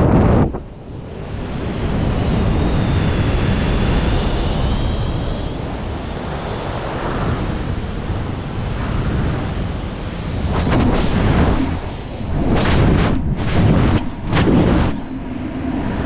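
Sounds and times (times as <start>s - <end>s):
plane engine: 0.0s - 16.0s
wind rushing: 0.0s - 16.0s.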